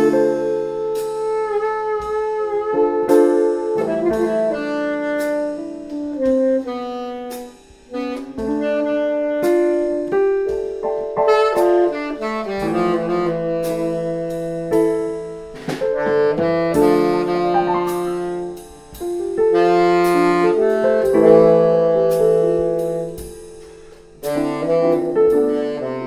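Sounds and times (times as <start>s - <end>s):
saxophone melody: 0.0s - 23.3s, 24.2s - 26.0s
piano: 0.0s - 26.0s.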